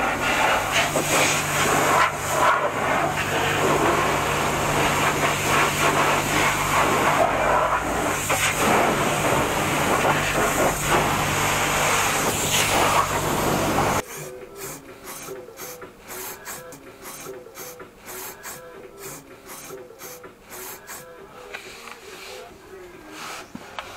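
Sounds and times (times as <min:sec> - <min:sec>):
pressure washer spraying water: 0:00.0 - 0:21.2.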